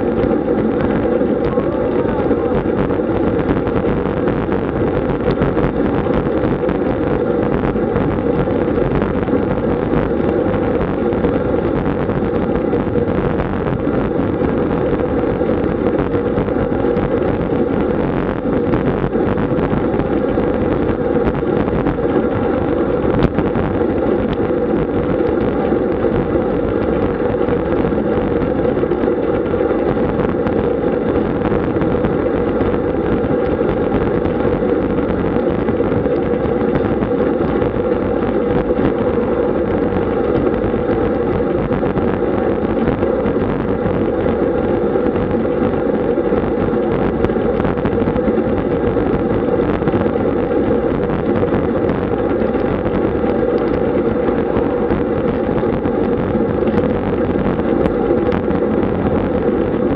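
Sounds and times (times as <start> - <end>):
bicycle tyre and road noise: 0.0 - 59.9
wind rush on microphone: 0.0 - 59.9.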